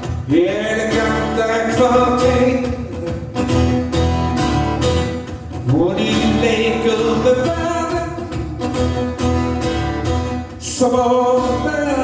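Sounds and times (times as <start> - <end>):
guitar accompaniment: 0.0 - 12.0.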